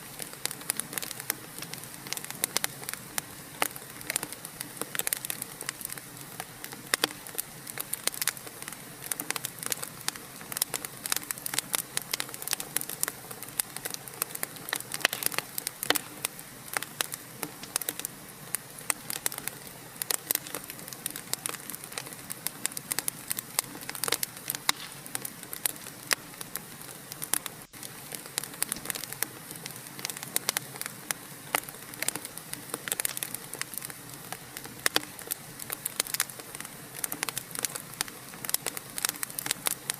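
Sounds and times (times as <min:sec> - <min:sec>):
steady hiss: 0:00.0 - 0:39.9
wood fire crackling: 0:00.0 - 0:39.9.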